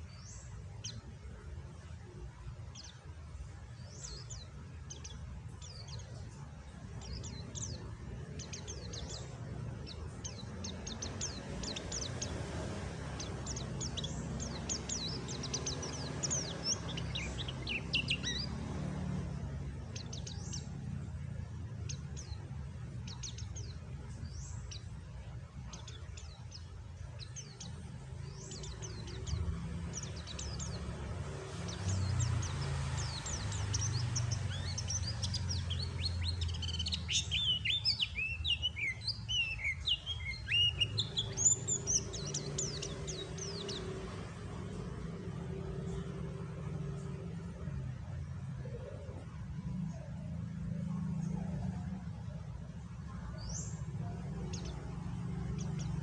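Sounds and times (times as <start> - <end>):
low background noise: 0.0 - 56.0
small bird twittering: 0.0 - 56.0.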